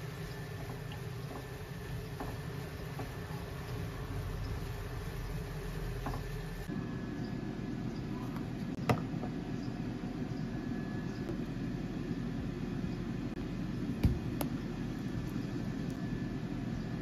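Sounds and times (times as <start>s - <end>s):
room noise hum: 0.0s - 17.0s.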